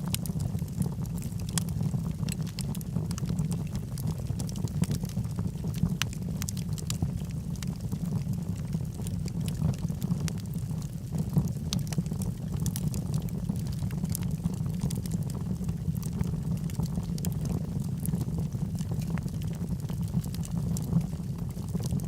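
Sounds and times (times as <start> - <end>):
fire roaring in fireplace: 0.0 - 22.0
wood crackling and popping: 0.0 - 22.0.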